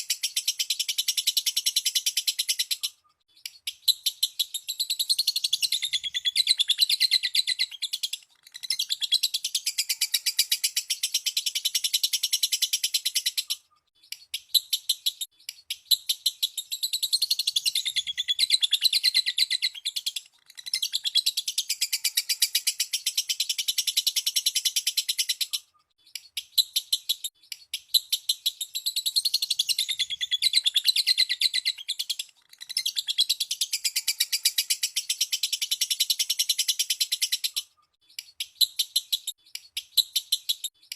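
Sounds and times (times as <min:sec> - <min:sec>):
lovebird chirping: 0:00.0 - 0:40.9.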